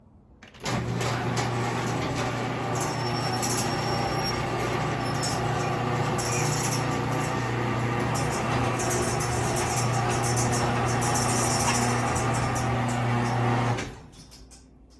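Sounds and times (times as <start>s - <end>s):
garage door opener motor hum: 0.4s - 14.6s
garage door rattling: 0.4s - 14.8s.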